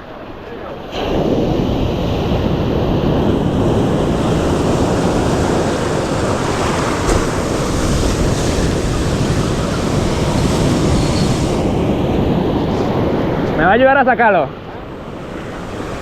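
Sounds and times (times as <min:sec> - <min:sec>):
surf rushing: 0:00.0 - 0:16.0
wind buffeting microphone: 0:00.8 - 0:16.0.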